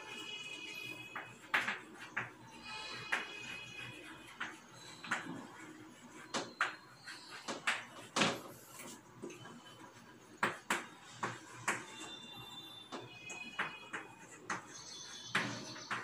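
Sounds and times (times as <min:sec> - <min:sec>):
chalk tapping and scraping on blackboard: 0:00.0 - 0:16.0.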